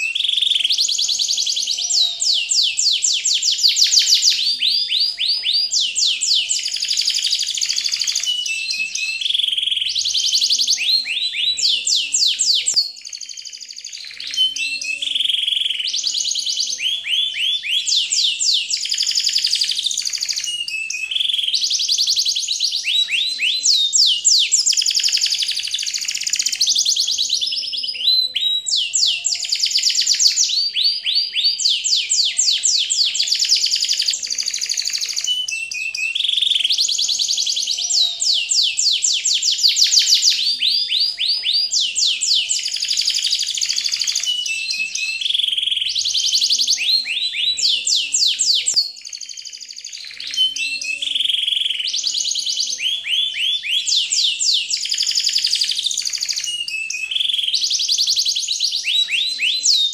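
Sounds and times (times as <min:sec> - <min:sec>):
birds trilling chirps: 0:00.0 - 0:59.9.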